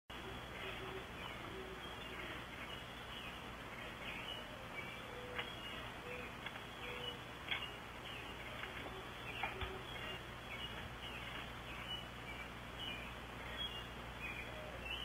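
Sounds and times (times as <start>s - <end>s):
constant hiss: 0.1s - 15.0s
faint bird chirps: 0.1s - 15.0s.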